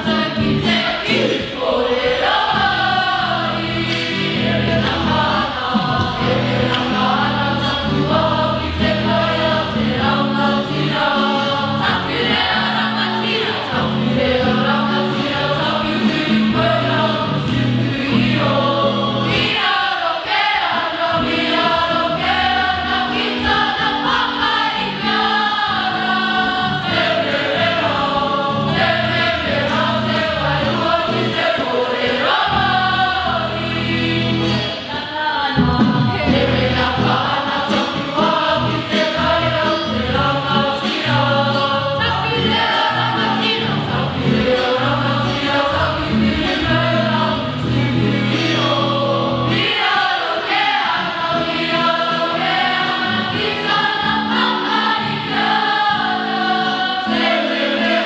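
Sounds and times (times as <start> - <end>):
group singing: 0.0 - 58.0.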